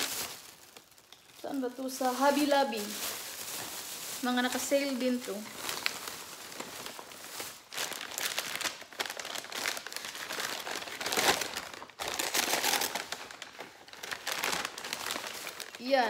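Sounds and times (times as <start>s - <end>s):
wrapping paper crinkling: 0.0s - 16.0s.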